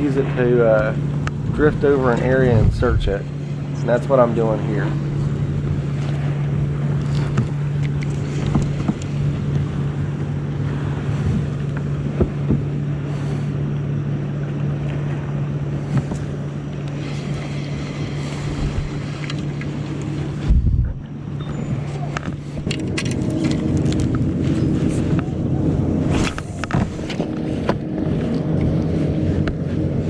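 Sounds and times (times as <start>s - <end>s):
wind on microphone: 0.0s - 13.7s, 15.8s - 30.0s
motorboat engine drone: 0.0s - 30.0s
water noise: 0.0s - 30.0s.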